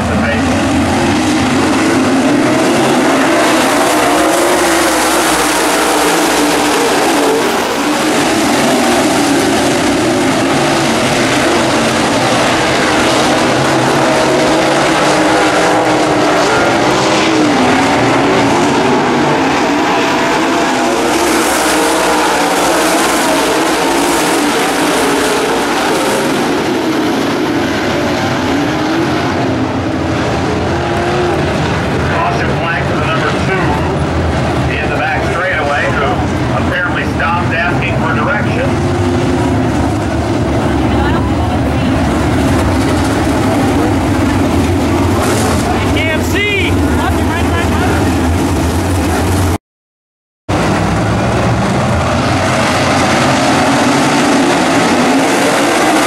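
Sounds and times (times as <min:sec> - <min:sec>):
race car engines droning: 0:00.0 - 0:49.6, 0:50.5 - 0:56.0.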